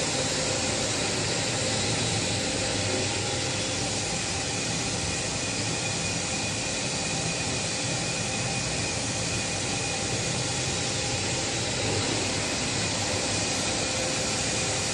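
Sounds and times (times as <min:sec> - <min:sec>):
boiler burner and fan rushing: 0:00.0 - 0:14.9
faint steady whines: 0:00.0 - 0:14.9.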